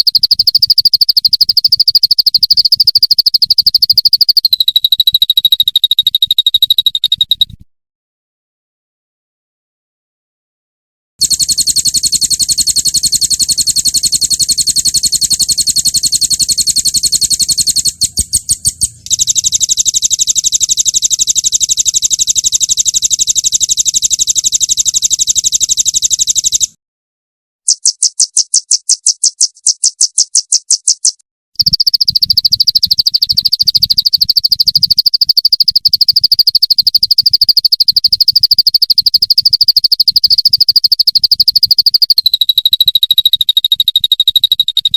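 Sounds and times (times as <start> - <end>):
songbird rapid trills: 0.0 - 7.6, 11.2 - 26.7, 27.7 - 44.9.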